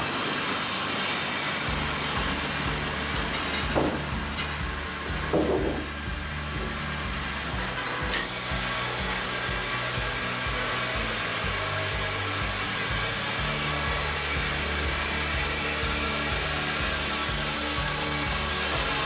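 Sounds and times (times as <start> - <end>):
band saw cutting log: 0.0 - 19.0
background music with a beat: 1.7 - 19.0.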